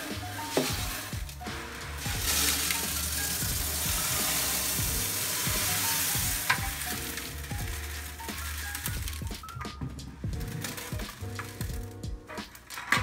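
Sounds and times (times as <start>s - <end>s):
gravel poured into glass tank: 0.0s - 12.7s.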